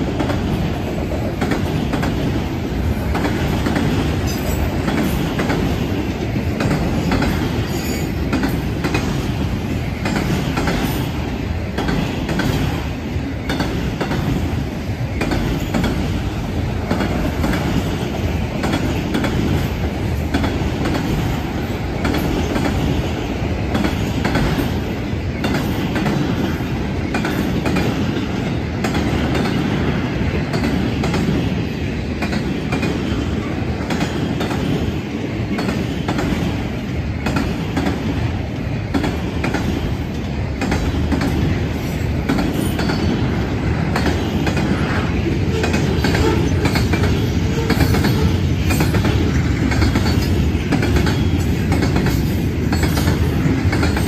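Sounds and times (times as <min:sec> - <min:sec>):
rumble of train wheels: 0:00.0 - 0:54.0
wheels clacking over rail joints: 0:00.0 - 0:54.0.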